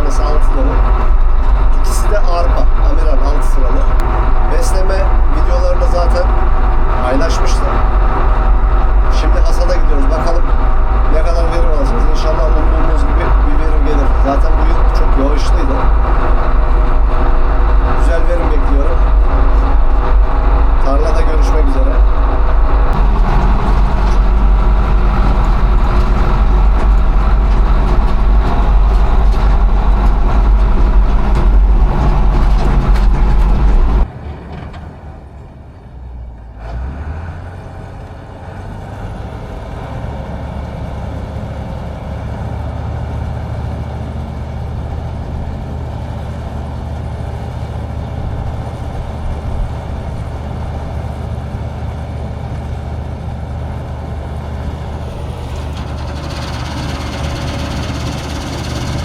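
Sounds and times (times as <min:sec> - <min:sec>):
combine harvester engine running: 0:00.0 - 0:59.0
low engine sound: 0:00.0 - 0:59.0.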